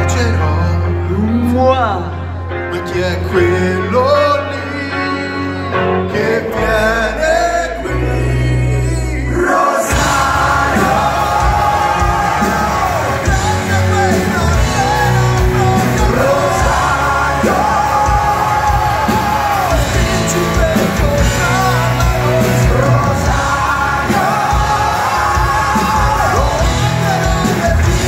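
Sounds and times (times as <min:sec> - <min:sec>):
live rock band: 0:00.0 - 0:28.0
person singing: 0:00.0 - 0:28.0.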